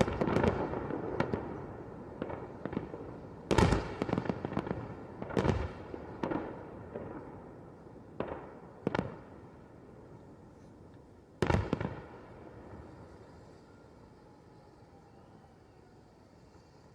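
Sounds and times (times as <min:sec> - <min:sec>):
fireworks bangs and crackling pops: 0:00.0 - 0:14.5.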